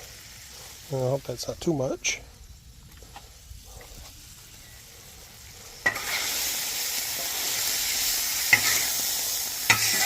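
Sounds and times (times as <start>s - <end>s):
meat sizzling on a griddle: 0.0s - 10.0s.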